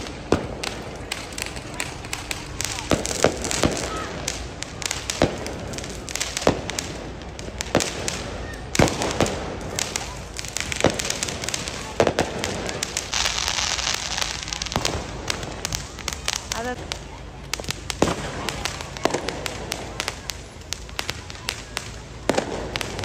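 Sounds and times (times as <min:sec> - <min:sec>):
firecracker bangs and pops: 0:00.0 - 0:23.0
fountain firework hissing: 0:00.0 - 0:23.0.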